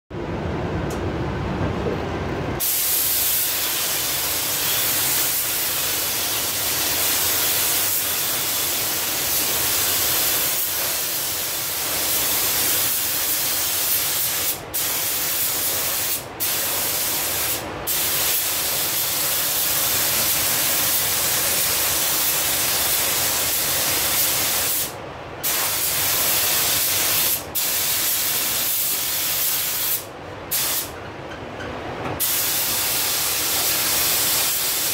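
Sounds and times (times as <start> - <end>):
paint spray gun hissing: 2.6 - 30.9, 32.2 - 34.9.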